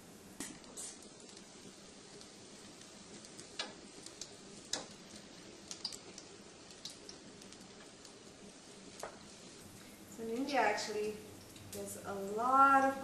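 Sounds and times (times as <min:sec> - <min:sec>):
deep-frying sizzle: 0:00.0 - 0:13.0
oil ticks and crackles: 0:00.2 - 0:13.0.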